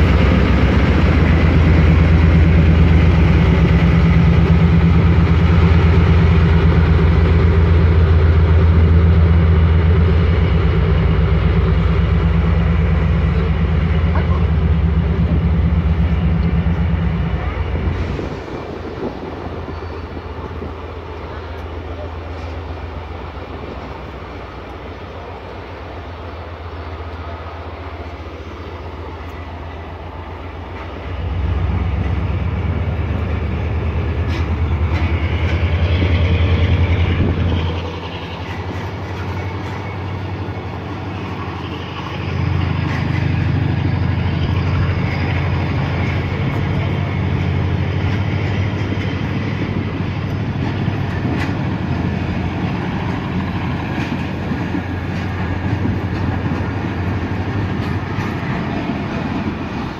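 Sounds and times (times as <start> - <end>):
train coaches rumbling past: 0.0 - 59.9.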